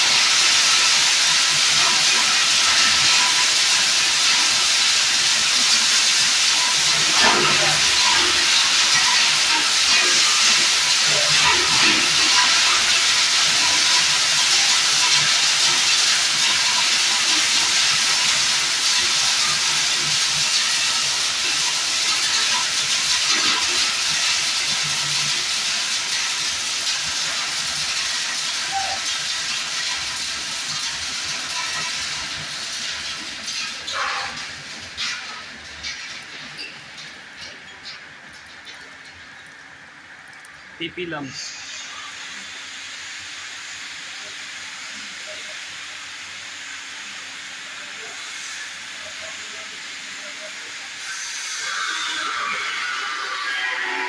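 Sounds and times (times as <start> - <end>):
plastic grinder machine hissing: 0.0 - 54.0.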